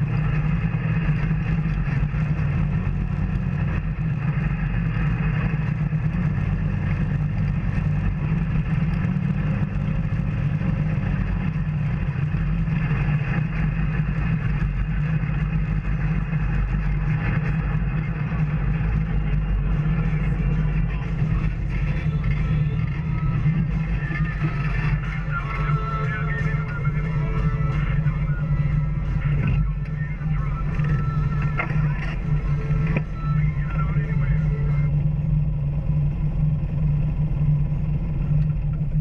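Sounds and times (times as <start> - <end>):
off-road vehicle engine running: 0.0 - 39.0.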